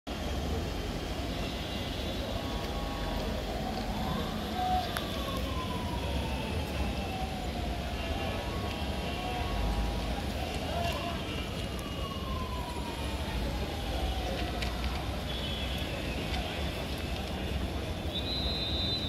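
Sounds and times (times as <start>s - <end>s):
low city rumble: 0.1s - 19.0s.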